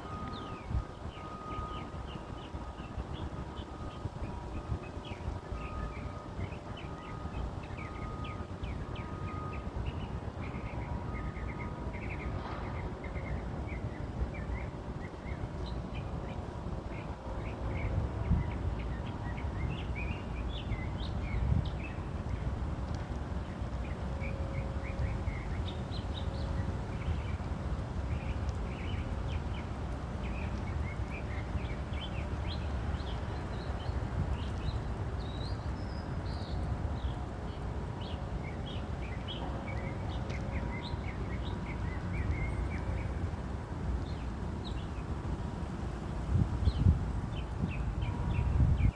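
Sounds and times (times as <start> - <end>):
city traffic rumble: 0.0 - 48.9.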